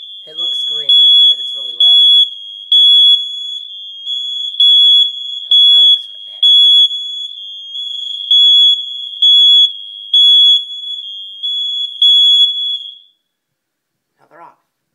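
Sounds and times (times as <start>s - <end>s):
steady alarm tone: 0.0s - 13.2s
smoke alarm beeping: 0.0s - 13.3s.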